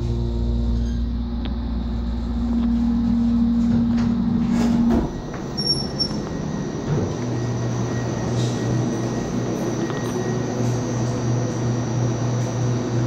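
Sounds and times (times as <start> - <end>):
elevator doors opening: 0.0 - 13.0
elevator hum and whine: 0.0 - 13.0.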